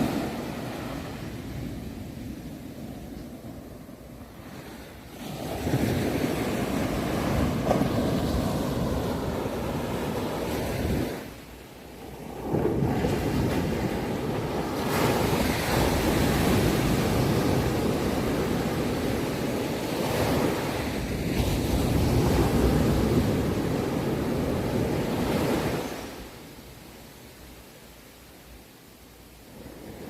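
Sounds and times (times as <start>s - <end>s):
sea waves washing over shore: 0.0s - 26.9s.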